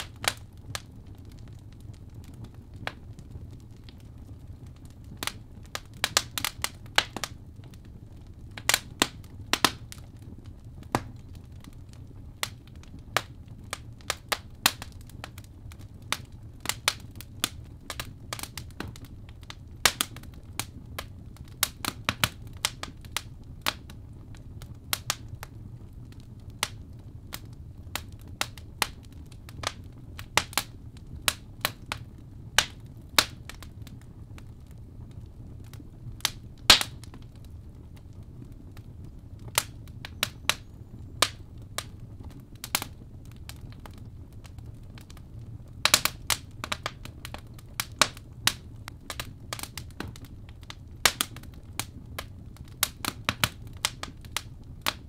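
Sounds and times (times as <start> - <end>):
fire crackling and popping: 0.0 - 55.0
low hum of flames: 0.0 - 55.0.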